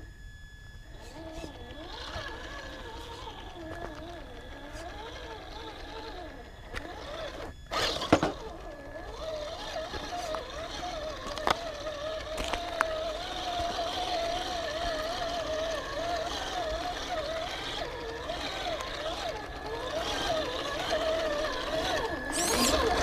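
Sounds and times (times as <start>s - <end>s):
electric motor and gears whining: 0.0s - 23.0s.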